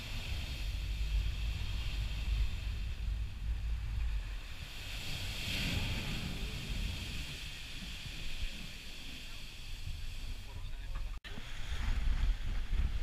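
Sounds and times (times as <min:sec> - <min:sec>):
ocean swell whooshing from sea cave: 0:00.0 - 0:10.5
wind rumble on microphone: 0:00.0 - 0:13.0.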